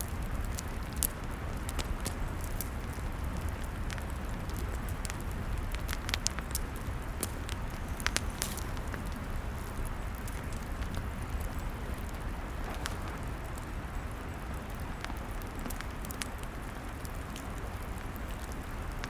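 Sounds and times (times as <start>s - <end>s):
wood crackling and popping: 0.0s - 19.0s
log fire hissing: 0.1s - 19.0s.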